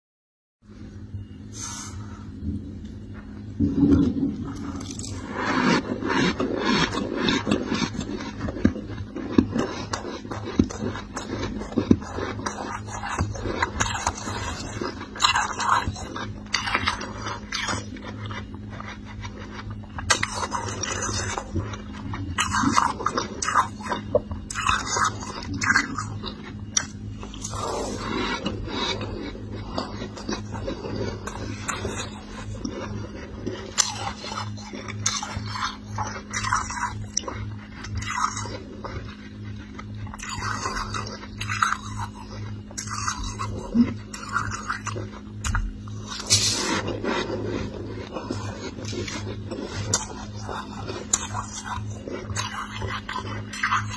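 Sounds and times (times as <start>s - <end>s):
steady low hum: 0.6s - 53.9s
frost being scraped and crunched: 3.6s - 53.9s.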